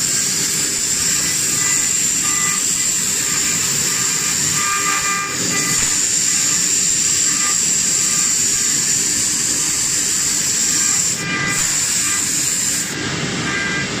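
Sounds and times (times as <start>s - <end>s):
bit rasping wood: 0.0s - 13.6s
router spindle high whine: 0.0s - 14.0s.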